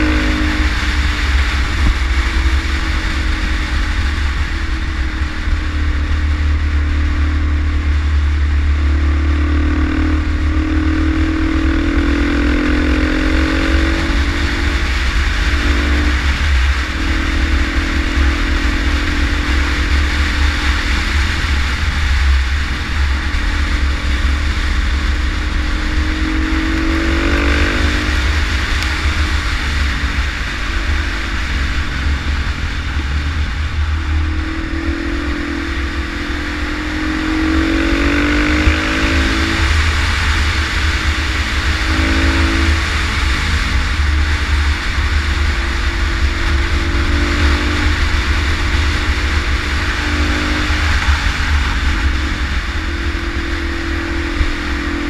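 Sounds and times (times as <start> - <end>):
motorcycle engine accelerating: 0.0 - 55.0
wind rumble on microphone: 0.0 - 55.0.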